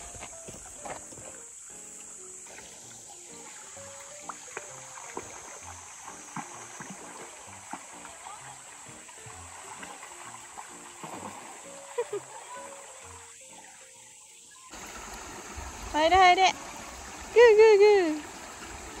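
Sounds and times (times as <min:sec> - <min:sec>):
stream rushing over rocks: 0:00.0 - 0:13.6, 0:14.4 - 0:19.0
light background music: 0:00.0 - 0:18.9.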